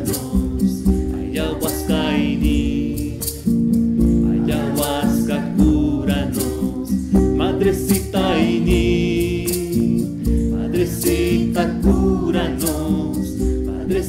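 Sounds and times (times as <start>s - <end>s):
acoustic guitar strumming: 0.0s - 14.0s
person singing: 0.0s - 14.0s.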